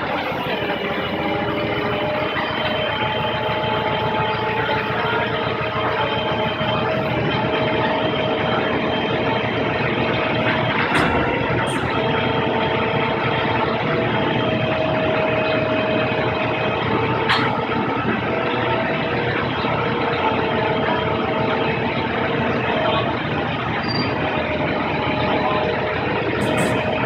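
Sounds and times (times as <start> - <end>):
engine-like hum with whining tones: 0.0 - 27.0.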